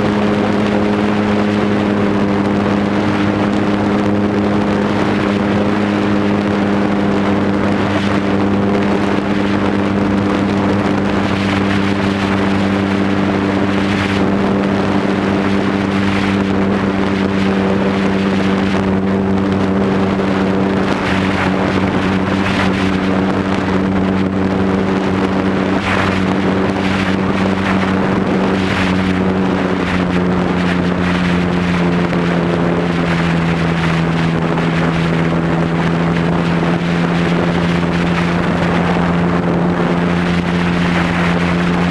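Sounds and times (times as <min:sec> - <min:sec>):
aircraft propeller droning: 0:00.0 - 0:41.9
wind on microphone: 0:00.0 - 0:41.9.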